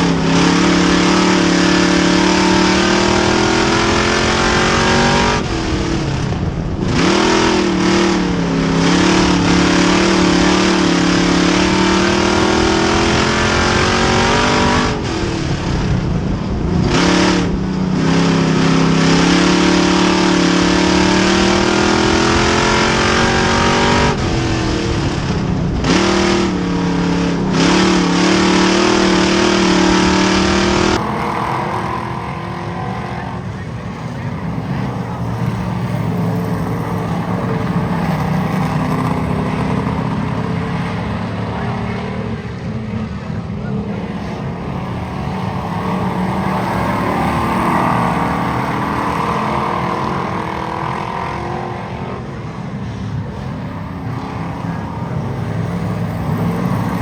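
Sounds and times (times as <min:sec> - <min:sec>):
heavy rushing noise: 0:00.0 - 0:57.0
race car engine at high revs: 0:00.0 - 0:57.0.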